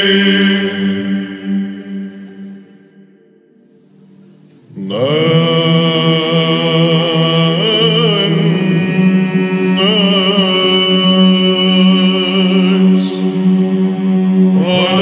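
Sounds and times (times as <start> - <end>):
low vocal drone: 0.0 - 15.0.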